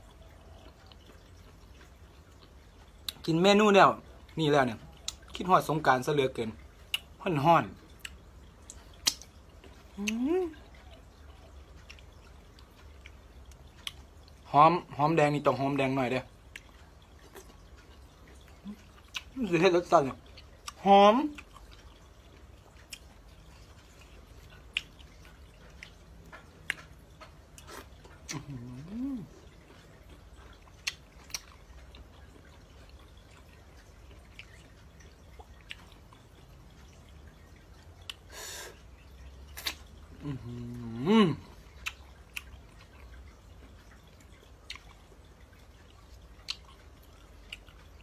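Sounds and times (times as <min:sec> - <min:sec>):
low steady hum: 0:00.0 - 0:48.0
wet squishing of food: 0:00.0 - 0:48.0.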